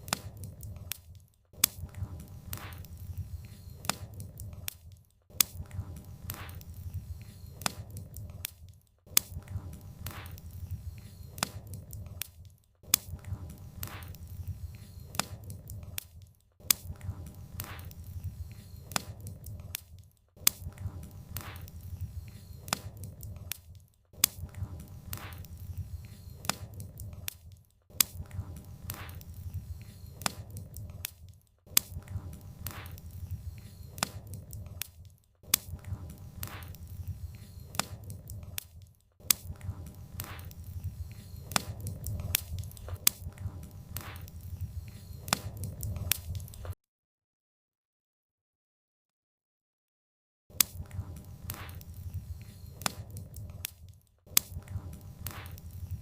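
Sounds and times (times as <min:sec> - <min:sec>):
low rumble of flames: 0:00.0 - 0:46.8, 0:50.6 - 0:56.0
wood fire crackling and popping: 0:00.0 - 0:46.8, 0:50.6 - 0:56.0.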